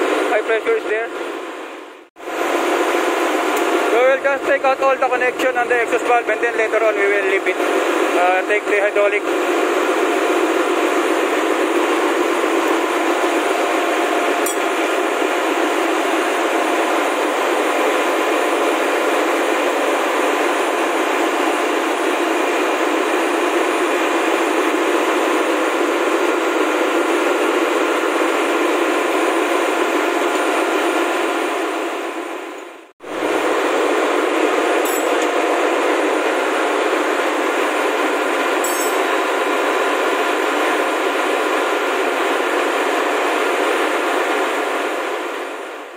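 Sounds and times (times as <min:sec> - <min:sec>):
engine room machinery noise: 0:00.0 - 0:45.9.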